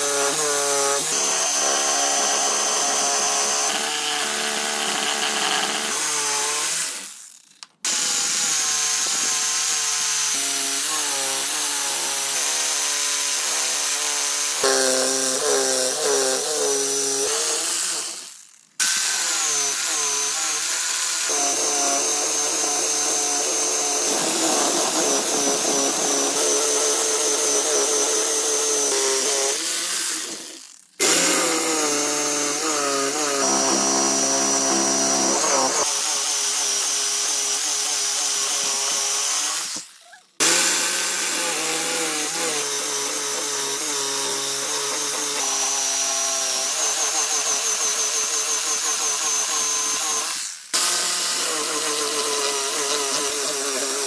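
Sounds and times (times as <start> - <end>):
power tool cutting wood: 0.0 - 54.0.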